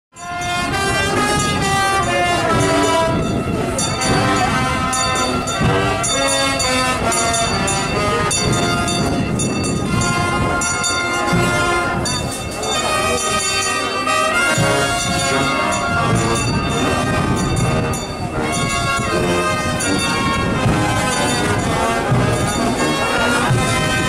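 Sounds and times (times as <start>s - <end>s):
brass band playing a slow march: 0.2s - 24.0s.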